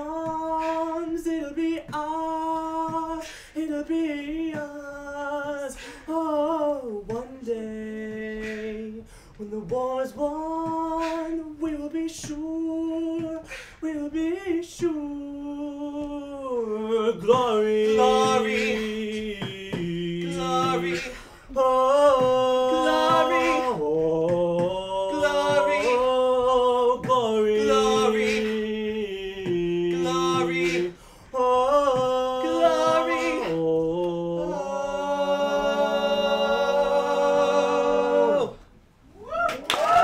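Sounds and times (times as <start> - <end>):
beatboxed percussion: 0.0 - 34.6
male voices singing a cappella: 0.0 - 38.7.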